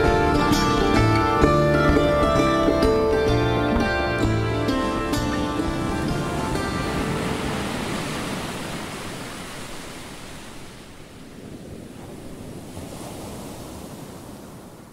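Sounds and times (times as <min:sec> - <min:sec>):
steady rushing noise: 0:01.1 - 0:13.8.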